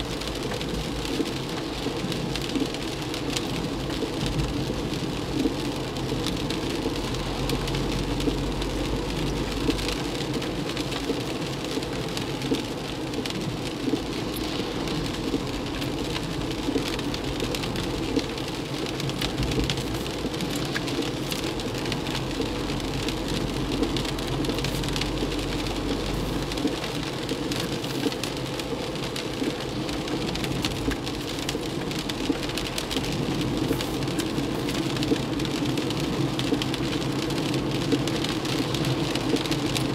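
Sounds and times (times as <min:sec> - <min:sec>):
rain on car roof: 0:00.0 - 0:39.9
tyres hissing on wet road: 0:00.0 - 0:39.9.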